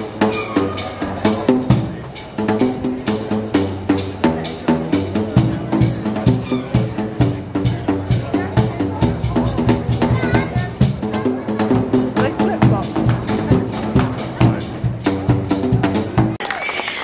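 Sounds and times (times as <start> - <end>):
pipes struck with paddles: 0.0 - 16.4.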